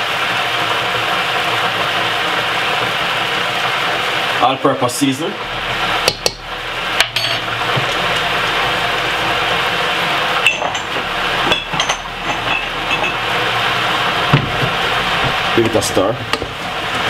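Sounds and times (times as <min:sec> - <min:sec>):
potatoes sizzling in a pot: 0:00.0 - 0:17.0.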